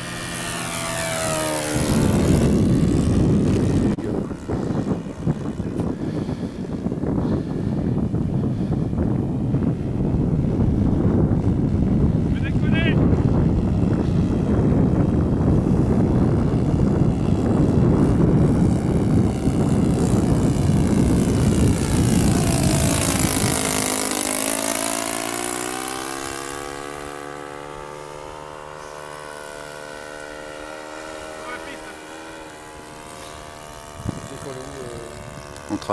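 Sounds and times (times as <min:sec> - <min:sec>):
model plane propeller engine: 0:00.0 - 0:35.9
wind rumble on microphone: 0:00.0 - 0:35.9.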